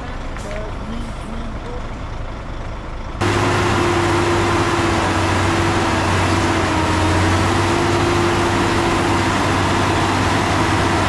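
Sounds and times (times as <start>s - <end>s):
heavy diesel engine running: 0.0s - 11.0s.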